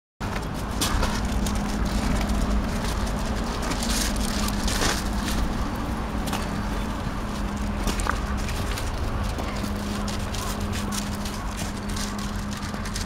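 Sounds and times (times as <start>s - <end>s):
faint constant hum: 0.2s - 13.0s
footsteps on gravel: 0.2s - 13.0s
low outdoor rumble: 0.2s - 13.0s.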